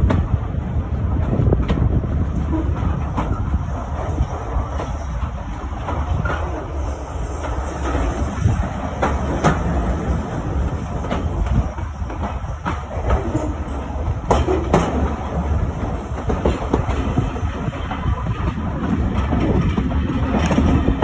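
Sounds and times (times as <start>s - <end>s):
railway carriage rumbling: 0.0s - 21.0s.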